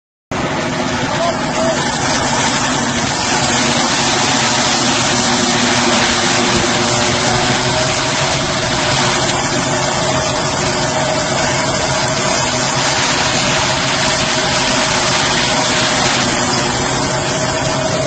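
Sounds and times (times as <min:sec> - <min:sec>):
tractor diesel engine running: 0:00.3 - 0:18.0.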